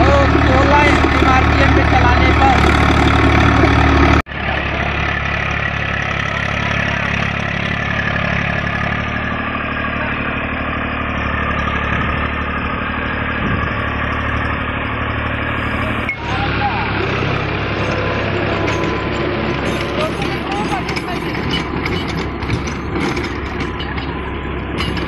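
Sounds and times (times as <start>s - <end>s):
loud machinery noise: 0.0s - 25.0s
tractor diesel engine running: 0.0s - 25.0s.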